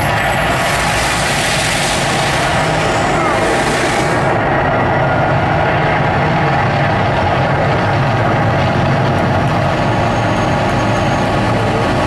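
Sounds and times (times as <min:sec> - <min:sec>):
loud rumbling roar: 0:00.0 - 0:12.0.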